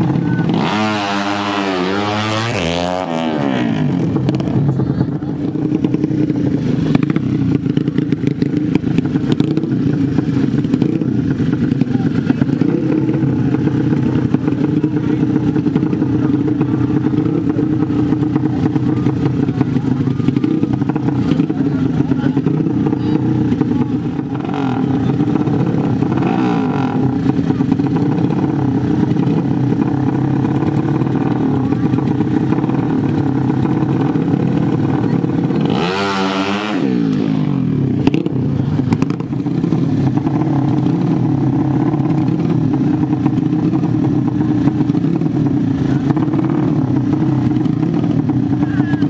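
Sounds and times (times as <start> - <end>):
engine throttle blips: 0.0 - 49.0
motorcycle engines idling: 0.0 - 49.0.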